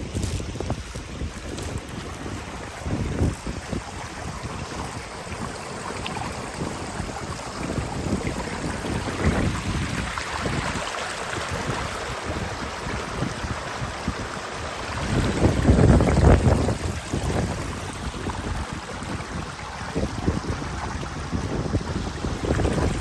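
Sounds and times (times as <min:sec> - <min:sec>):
stream rushing: 0:00.0 - 0:23.0
wind buffeting microphone: 0:00.0 - 0:23.0.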